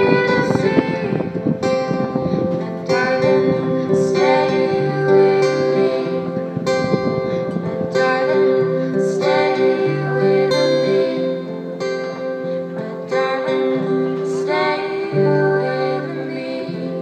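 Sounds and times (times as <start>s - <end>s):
acoustic guitar strumming: 0.0s - 17.0s
person singing: 0.0s - 17.0s.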